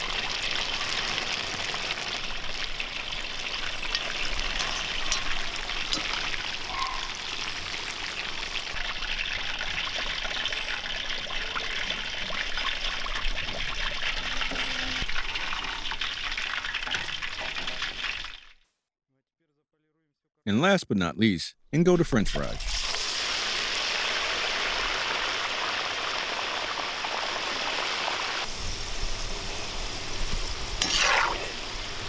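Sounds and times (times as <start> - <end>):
chicken deep-frying in hot oil: 0.0 - 18.6, 22.6 - 32.0.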